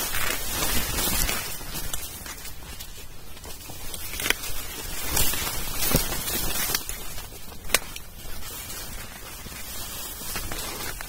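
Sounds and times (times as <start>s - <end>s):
dry corn stalks rustling: 0.0s - 11.0s.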